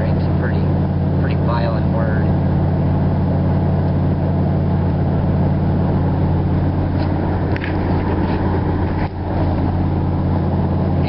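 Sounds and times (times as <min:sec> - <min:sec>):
road noise: 0:00.0 - 0:11.0
vehicle engine drone: 0:00.0 - 0:11.0.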